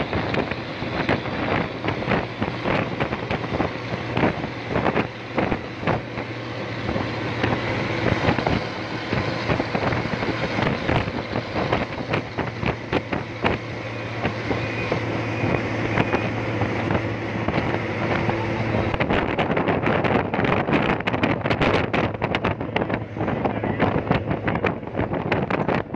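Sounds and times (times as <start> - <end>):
bus engine running: 0.0 - 25.9
road noise: 0.0 - 25.9
wind buffeting microphone: 0.0 - 25.9.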